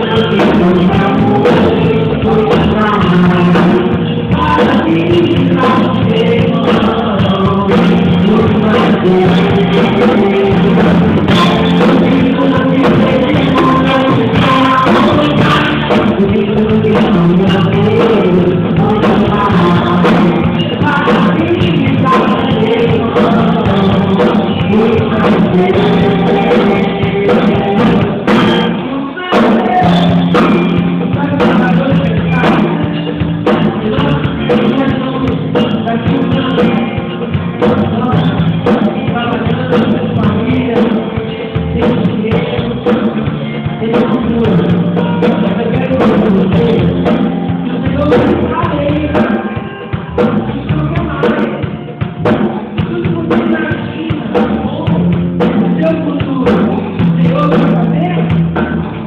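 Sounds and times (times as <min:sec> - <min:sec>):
band music with singing: 0:00.0 - 0:59.0
steady drum beat: 0:00.0 - 0:59.0.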